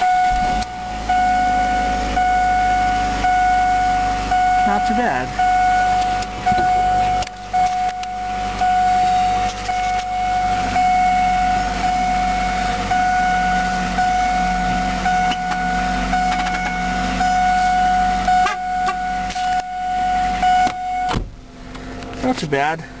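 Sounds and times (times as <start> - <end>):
steady high tone: 0.0 - 21.2
car engine idling: 0.0 - 23.0.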